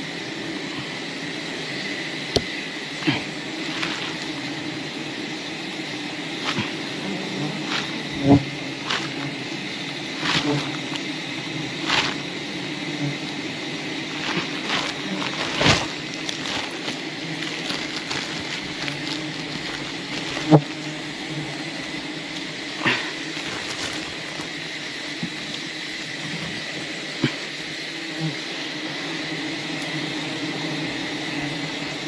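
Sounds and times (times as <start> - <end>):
bees buzzing: 0.2 - 27.2, 27.8 - 32.0.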